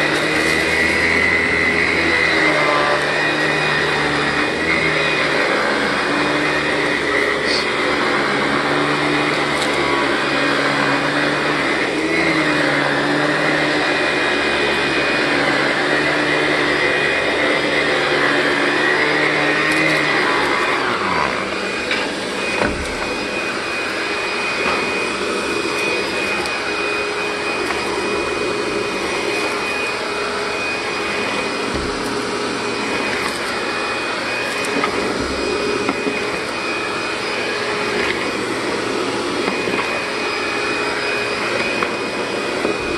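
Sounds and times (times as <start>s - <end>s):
upright vacuum running: 0.0s - 42.9s.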